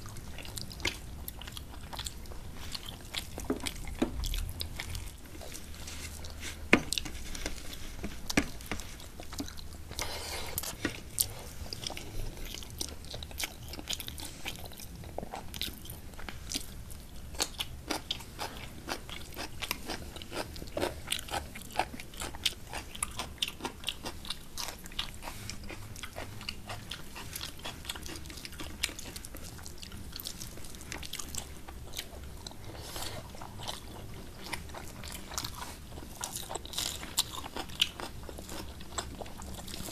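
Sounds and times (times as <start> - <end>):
people chewing food: 0.0 - 39.9.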